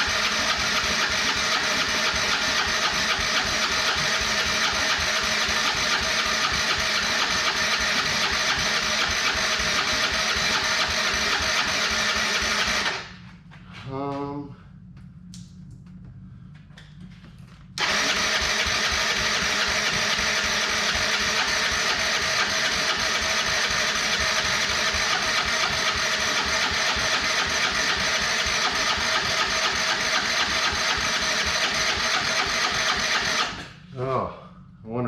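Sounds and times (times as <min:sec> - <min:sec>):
engine cranking without starting: 0:00.0 - 0:13.2, 0:17.8 - 0:33.8.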